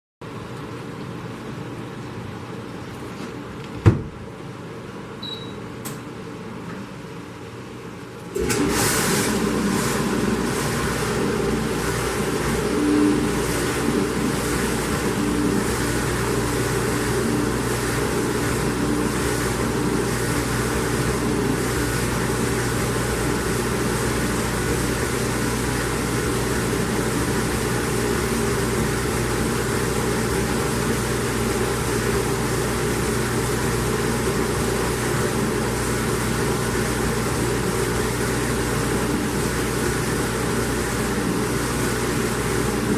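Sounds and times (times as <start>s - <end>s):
dishwasher motor hum: 0.2s - 42.9s
dishwasher water rushing: 8.3s - 42.9s.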